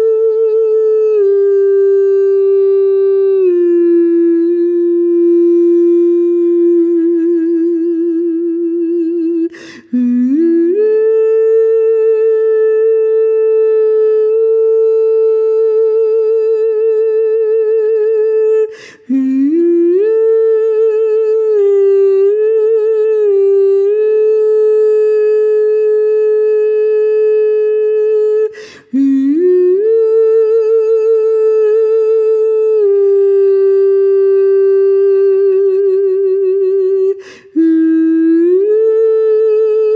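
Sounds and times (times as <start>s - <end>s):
person singing wordless sustained tones: 0.0s - 39.9s.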